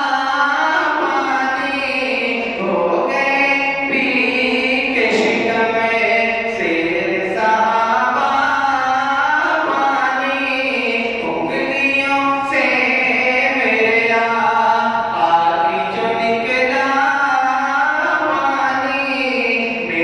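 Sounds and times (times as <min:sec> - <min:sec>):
man singing unaccompanied: 0:00.0 - 0:20.0.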